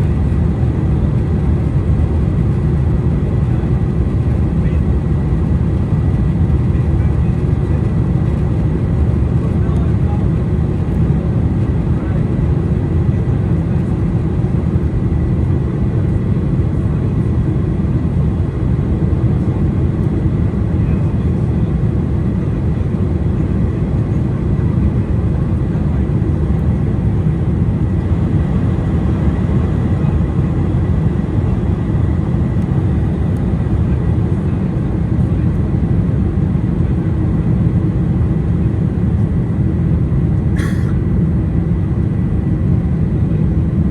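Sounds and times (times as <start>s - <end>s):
airplane cabin engine rush: 0.0s - 43.9s.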